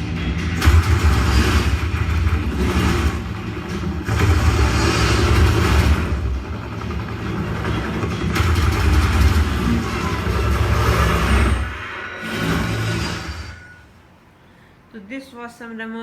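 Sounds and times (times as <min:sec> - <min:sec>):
heavy bass: 0:00.0 - 0:13.6.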